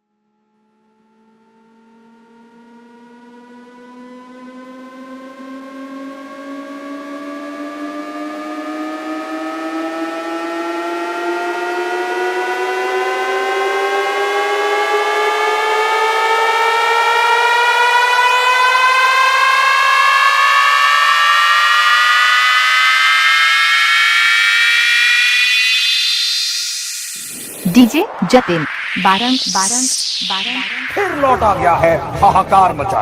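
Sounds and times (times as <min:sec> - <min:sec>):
rising synth riser sweep: 0:01.2 - 0:32.5.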